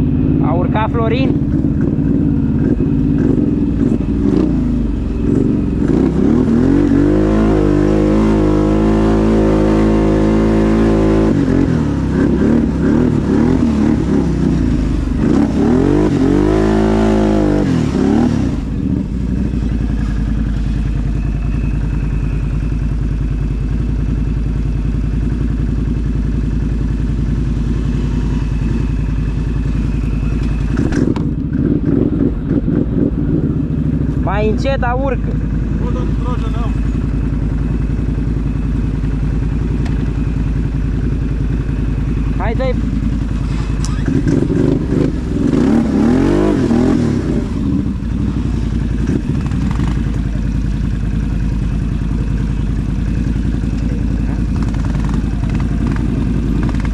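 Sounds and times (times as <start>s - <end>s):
quad bike engine revving: 0.0s - 24.2s, 25.7s - 56.9s.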